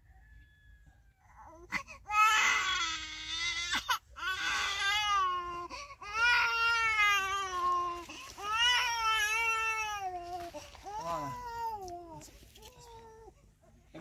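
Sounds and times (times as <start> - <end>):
baby crying: 1.4 - 13.5.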